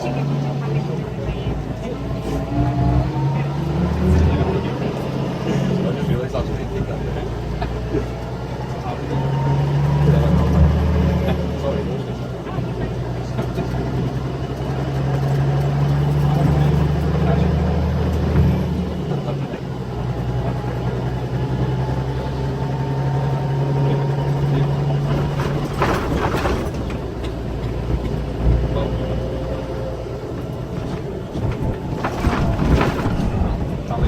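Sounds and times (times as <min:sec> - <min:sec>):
coach diesel engine drone: 0:00.0 - 0:34.0
road and cabin rumble: 0:00.0 - 0:34.0.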